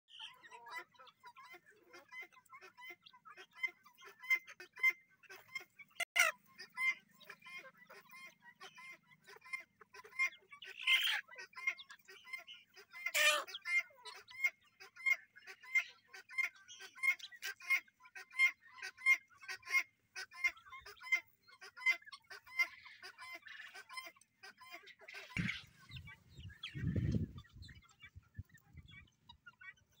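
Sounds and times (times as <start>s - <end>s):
poultry calling: 0.1s - 30.0s.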